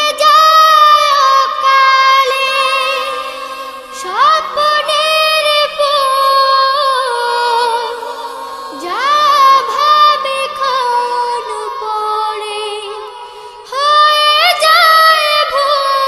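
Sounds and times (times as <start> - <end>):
children singing a cappella: 0.0 - 16.0.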